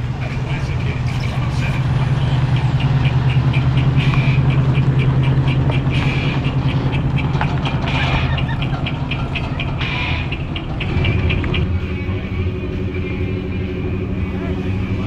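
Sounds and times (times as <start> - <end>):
rapid high ticking: 0.0 - 14.0
engine running: 0.0 - 15.0.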